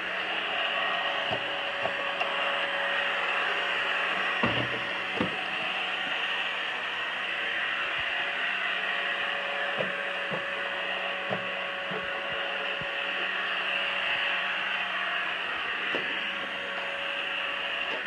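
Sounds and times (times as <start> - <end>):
robot vacuum whirring: 0.0 - 18.0.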